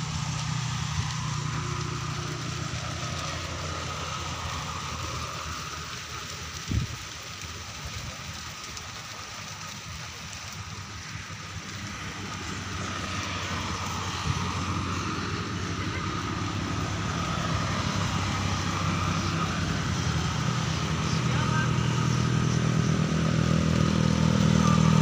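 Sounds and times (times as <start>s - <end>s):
engine running: 0.0s - 25.0s
outdoor hiss: 0.0s - 25.0s.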